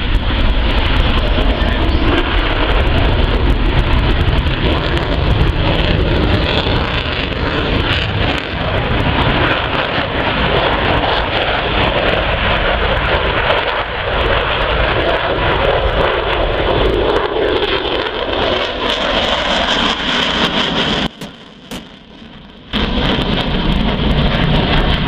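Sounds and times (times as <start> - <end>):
aircraft engines flying past: 0.0 - 25.0.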